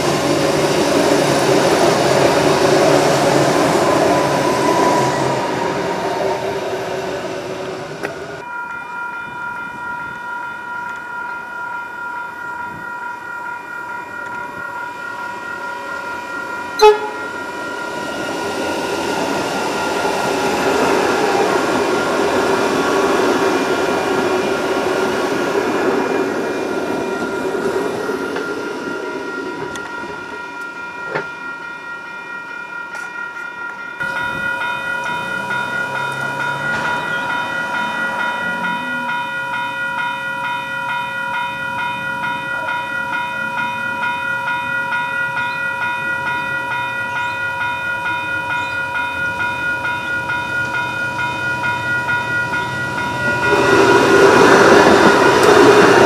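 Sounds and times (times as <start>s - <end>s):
electric train rumble: 0.0s - 56.0s
level crossing warning bells: 0.0s - 56.0s.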